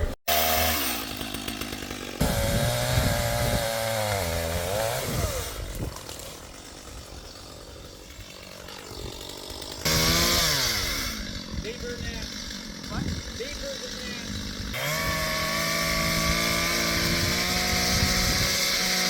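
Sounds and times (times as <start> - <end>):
chainsaw engine running: 0.0 - 19.0.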